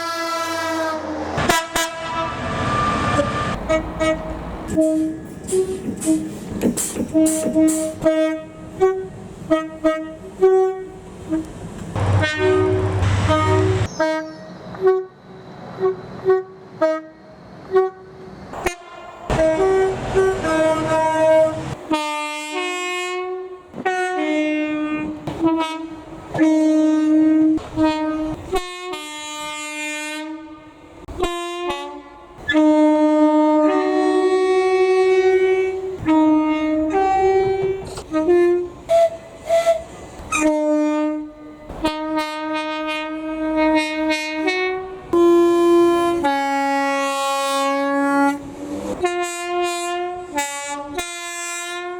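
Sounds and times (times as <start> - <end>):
train air horn playing a tune: 0.0 - 6.4, 7.0 - 15.2, 15.8 - 51.9.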